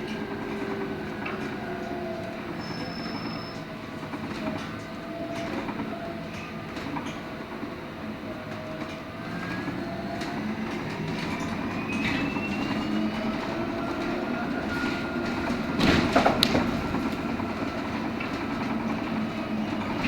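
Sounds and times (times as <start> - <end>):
bus road rumble: 0.0 - 20.0.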